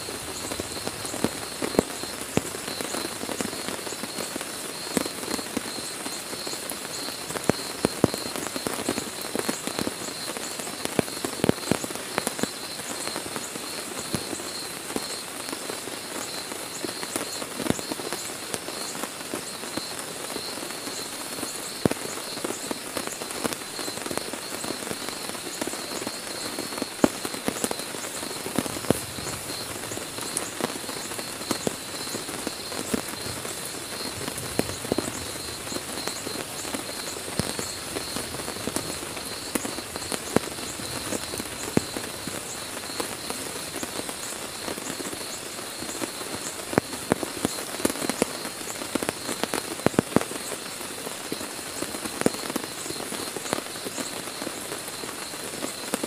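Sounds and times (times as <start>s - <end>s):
heavy rain on a tent: 0.0s - 56.0s
large raindrops tapping: 0.0s - 56.0s.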